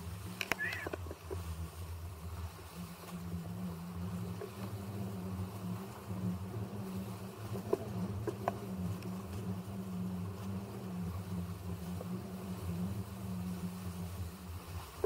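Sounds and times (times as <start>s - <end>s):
faint ticks: 0.0s - 15.0s
low buzzing hum: 0.0s - 15.0s.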